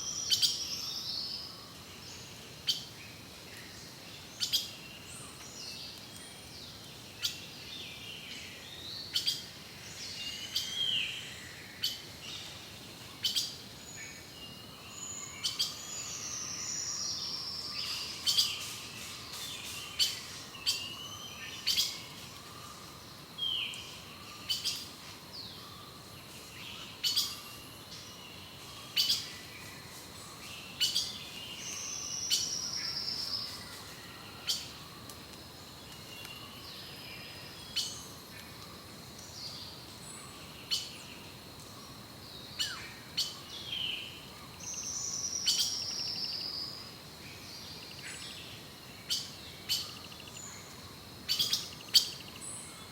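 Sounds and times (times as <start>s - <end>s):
songbirds chipping: 0.0s - 52.9s.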